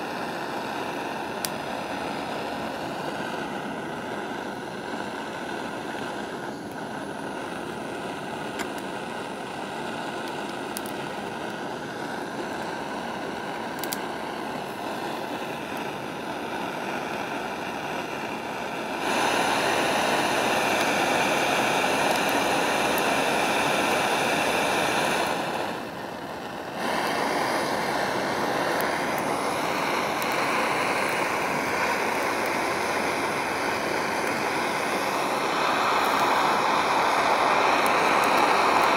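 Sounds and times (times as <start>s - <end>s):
gas torch flame hissing: 0.0s - 38.9s.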